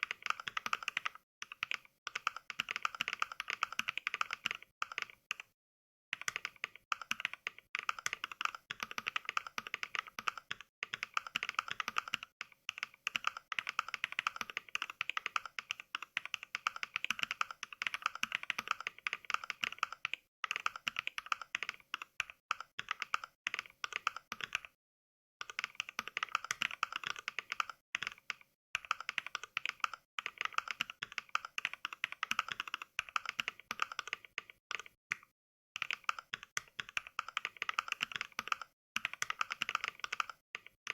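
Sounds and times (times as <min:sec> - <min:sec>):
mechanical keyboard typing clacks: 0:00.0 - 0:05.5, 0:06.2 - 0:24.8, 0:25.4 - 0:40.9.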